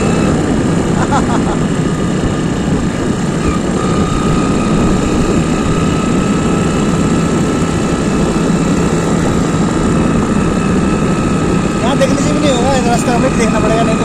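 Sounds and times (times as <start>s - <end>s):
motorbike engine running: 0.0s - 14.0s
wind rushing over microphone: 0.0s - 14.0s.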